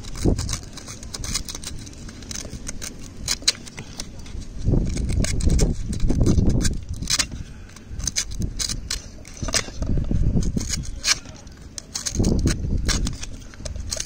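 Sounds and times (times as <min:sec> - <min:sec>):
sandpaper scraping metal: 0:00.0 - 0:14.0.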